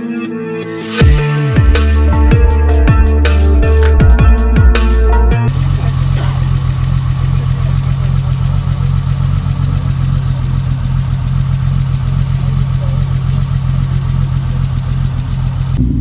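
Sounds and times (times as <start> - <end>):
car engine idling: 1.0 - 16.0.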